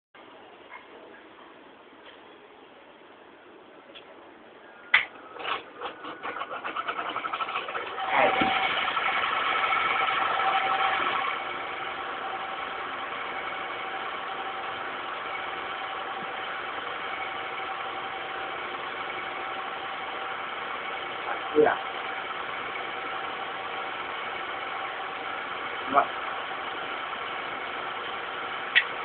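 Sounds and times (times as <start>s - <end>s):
engine starting and idling: 5.2s - 29.0s.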